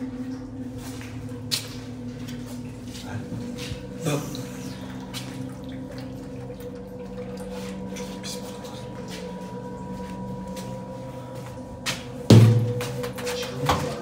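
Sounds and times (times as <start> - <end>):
low hum: 0.0 - 14.0
water running and trickling: 0.0 - 14.0.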